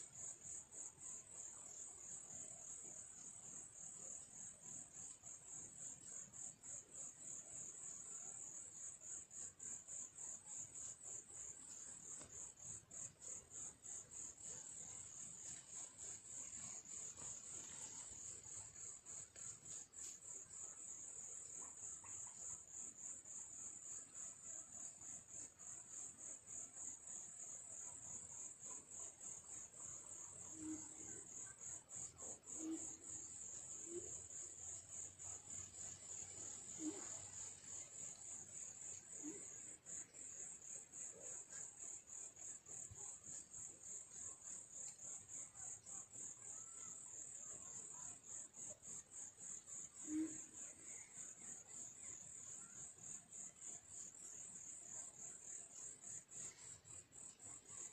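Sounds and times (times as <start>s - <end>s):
insect chirping: 0.0s - 57.9s.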